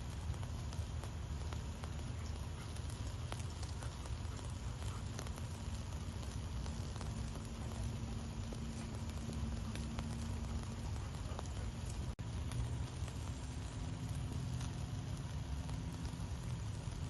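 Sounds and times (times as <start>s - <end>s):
fire crackles and pops: 0.0s - 17.0s
low rumble of flames: 0.0s - 17.0s.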